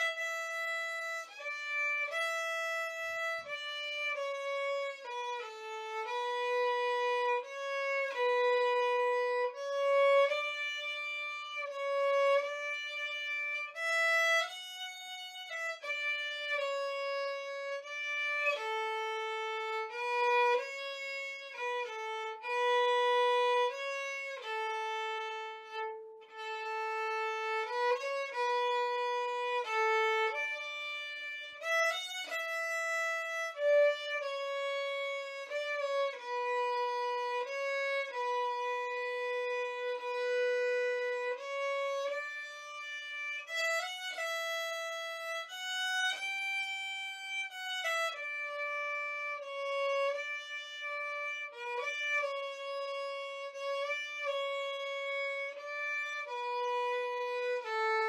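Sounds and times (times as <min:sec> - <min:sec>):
solo violin slow melody: 0:00.0 - 0:58.0.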